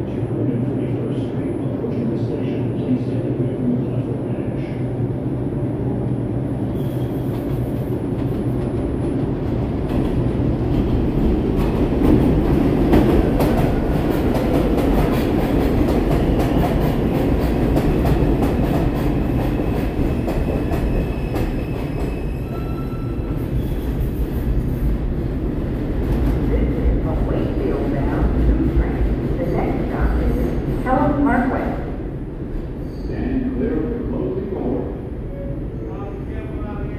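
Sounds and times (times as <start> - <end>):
train rumble: 0.0 - 36.9.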